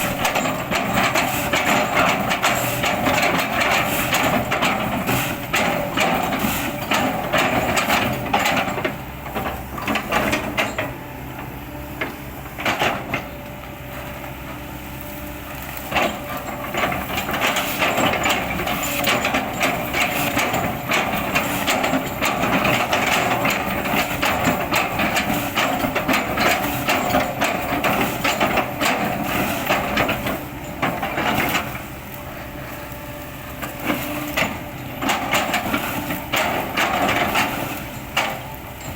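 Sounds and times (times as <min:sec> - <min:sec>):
excavator engine under load: 0:00.0 - 0:38.9.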